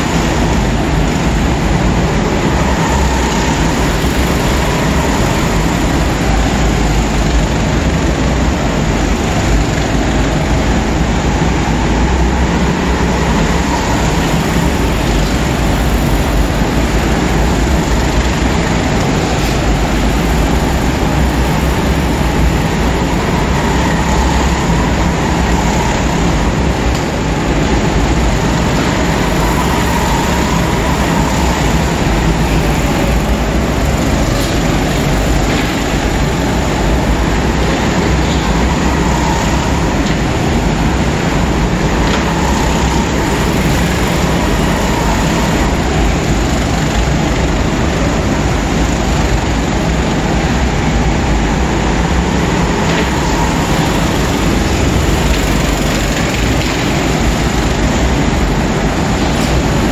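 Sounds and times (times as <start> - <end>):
go-kart engines droning: 0.0 - 59.9.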